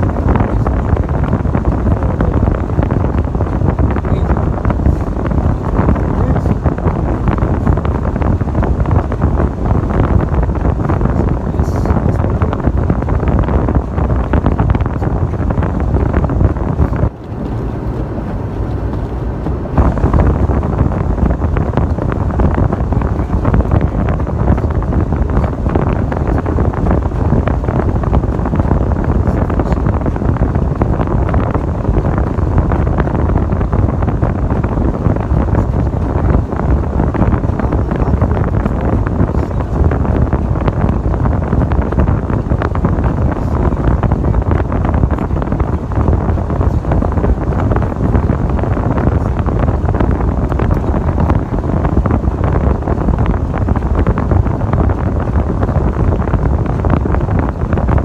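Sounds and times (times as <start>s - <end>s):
vehicle running with road noise: 0.0s - 58.0s
wind buffeting microphone: 0.0s - 58.0s.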